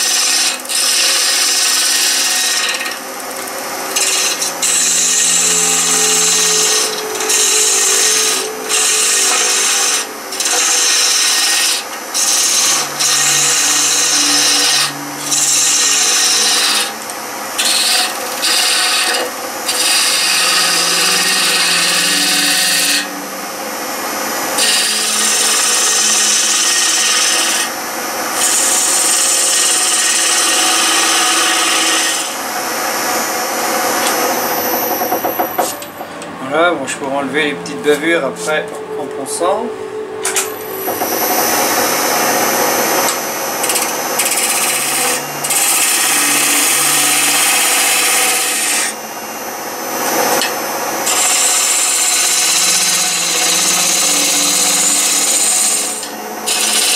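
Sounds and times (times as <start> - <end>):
chisel scraping spinning wood: 0.0 - 23.2, 24.5 - 27.8, 28.4 - 32.4, 33.8 - 36.6, 40.3 - 49.0, 50.3 - 56.9
lathe humming: 0.0 - 56.9.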